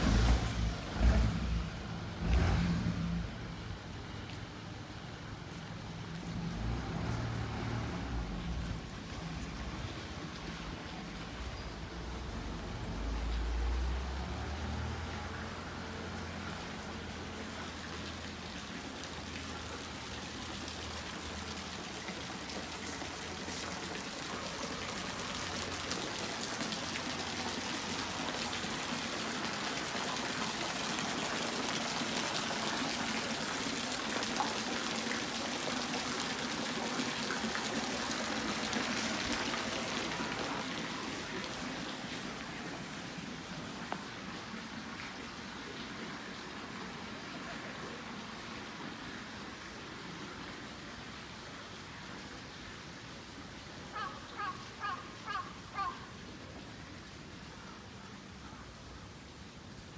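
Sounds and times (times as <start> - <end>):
running water trickling: 0.0 - 59.9.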